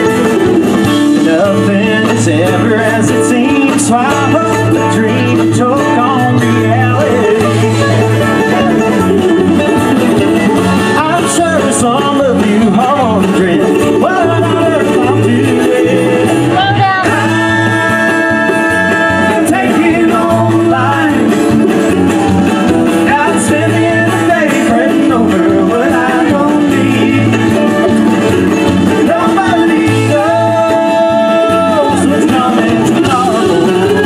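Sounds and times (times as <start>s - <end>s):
drums: 0.0s - 34.0s
man singing: 0.0s - 34.0s
strummed acoustic guitar: 0.0s - 34.0s.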